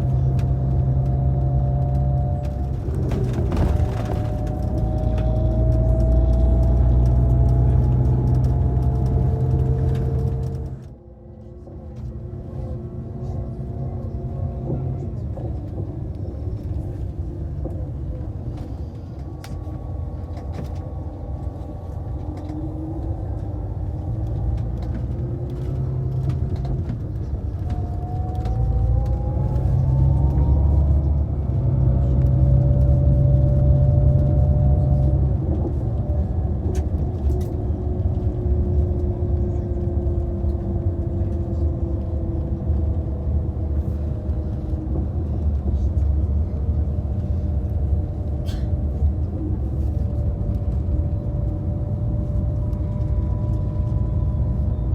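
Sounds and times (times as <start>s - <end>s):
vehicle interior rumble: 0.0s - 54.9s.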